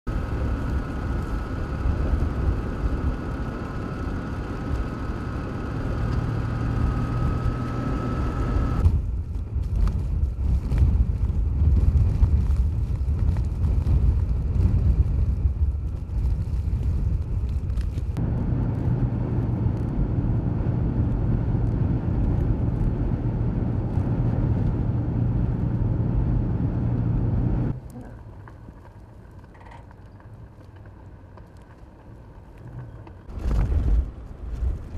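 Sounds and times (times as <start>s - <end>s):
strong wind buffeting microphone: 0.1s - 27.8s, 32.7s - 34.9s.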